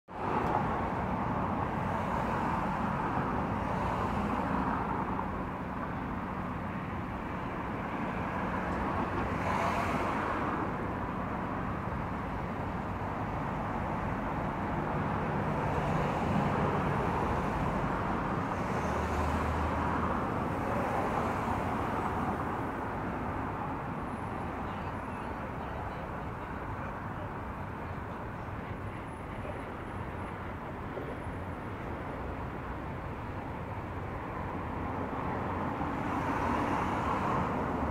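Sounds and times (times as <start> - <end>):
cars passing on highway: 0.1 - 37.9.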